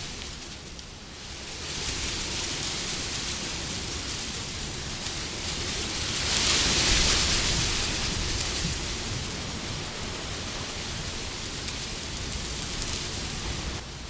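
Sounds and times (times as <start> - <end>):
rushing wind: 0.0 - 14.0.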